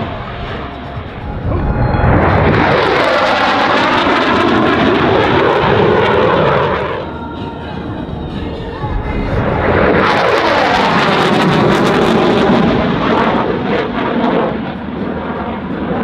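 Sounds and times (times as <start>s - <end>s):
military jet flying past: 0.0s - 16.0s.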